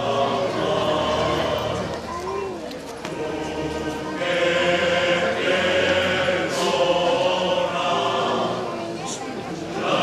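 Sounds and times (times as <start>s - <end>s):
choir singing a chant: 0.0s - 2.0s, 3.0s - 10.0s.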